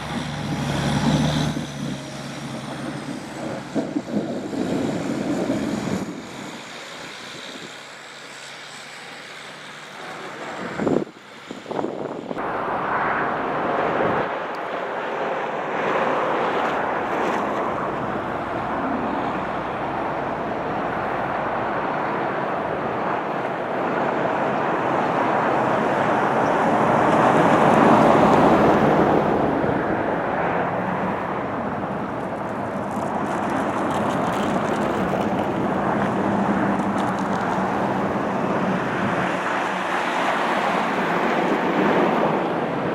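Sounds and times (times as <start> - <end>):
vehicle and wind rushing: 0.0 - 42.9.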